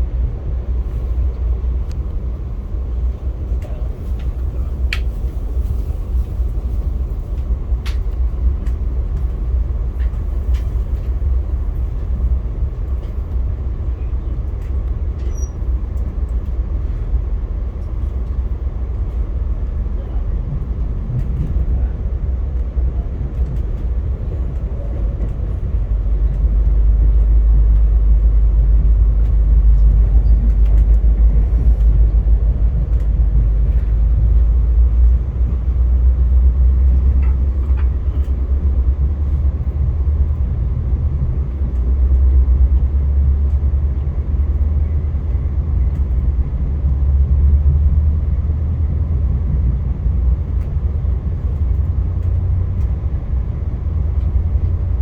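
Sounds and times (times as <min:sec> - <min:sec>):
passenger train rumbling: 0:00.0 - 0:55.0.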